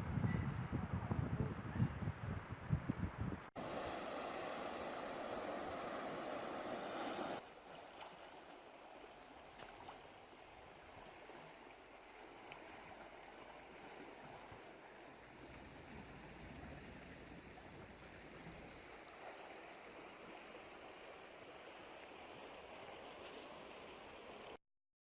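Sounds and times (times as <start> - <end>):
rushing water: 3.5 - 24.6.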